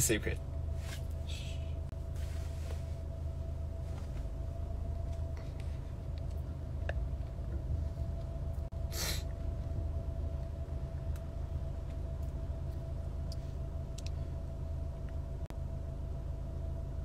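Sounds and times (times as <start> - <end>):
car cabin rumble: 0.0 - 17.0
faint steady hum: 0.0 - 17.0.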